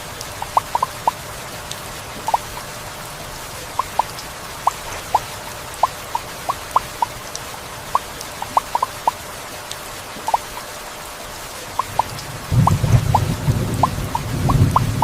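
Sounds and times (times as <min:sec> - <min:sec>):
heavy rain hissing: 0:00.0 - 0:15.0
large raindrops plinking: 0:00.0 - 0:15.0.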